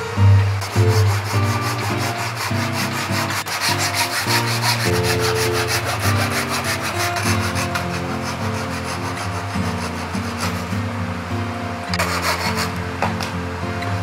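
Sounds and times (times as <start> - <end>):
wood being sanded: 0.0 - 10.8, 11.9 - 12.8.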